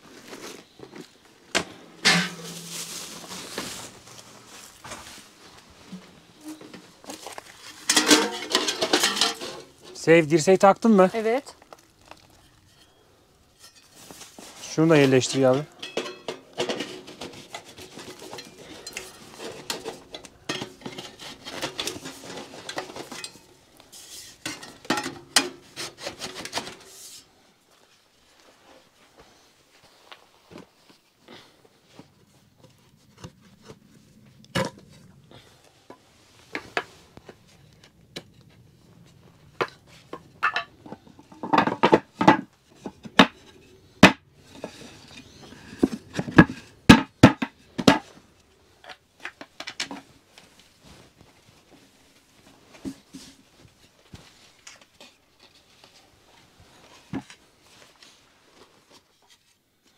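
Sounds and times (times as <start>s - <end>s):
metal camp gear clattering: 0.2s - 27.3s, 32.0s - 57.9s.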